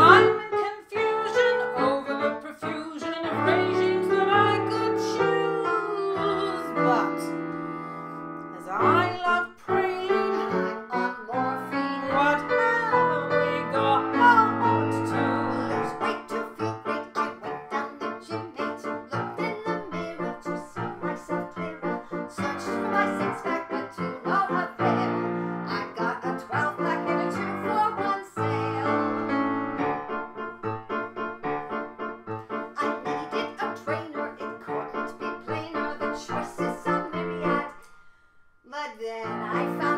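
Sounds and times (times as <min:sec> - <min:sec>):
women singing: 0:00.0 - 0:07.4, 0:08.6 - 0:29.3, 0:32.8 - 0:37.8, 0:39.0 - 0:39.9
piano chords: 0:00.0 - 0:39.9.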